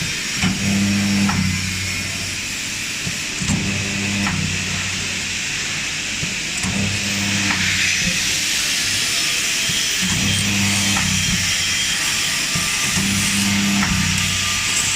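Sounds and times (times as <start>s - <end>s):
welding machine electric buzz: 0.0s - 14.9s.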